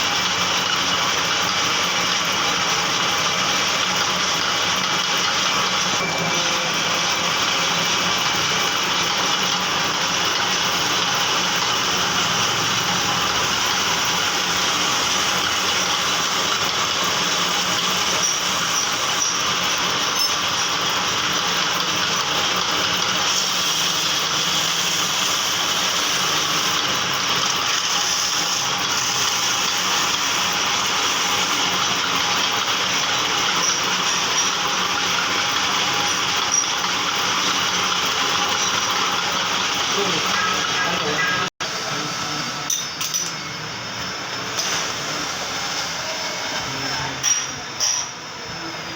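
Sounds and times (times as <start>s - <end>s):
metal lathe running: 0.0s - 48.9s.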